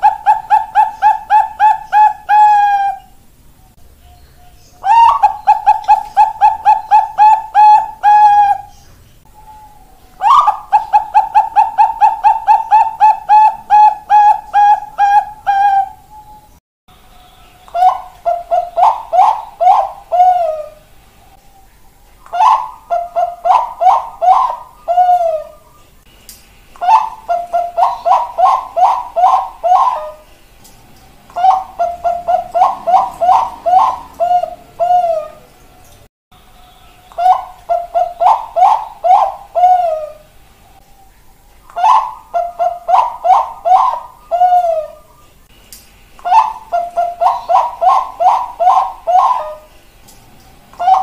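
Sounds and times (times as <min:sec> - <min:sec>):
dove cooing: 0:00.0 - 0:03.3, 0:04.8 - 0:16.5, 0:17.5 - 0:25.8, 0:26.8 - 0:36.1, 0:37.1 - 0:45.3, 0:46.2 - 0:49.9, 0:50.7 - 0:51.0.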